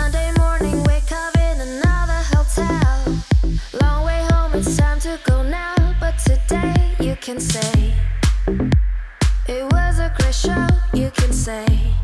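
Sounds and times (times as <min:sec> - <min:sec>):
electronic dance music: 0:00.0 - 0:11.7.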